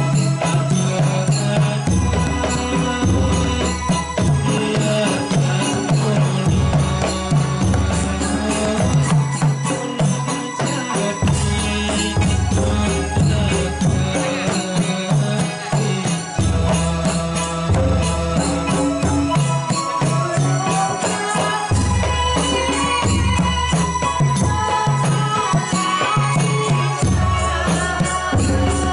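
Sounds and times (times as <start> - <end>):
heavy repeating drum beat: 0.0 - 28.9
jingling percussion: 0.0 - 28.9
man singing into a microphone: 0.0 - 28.9.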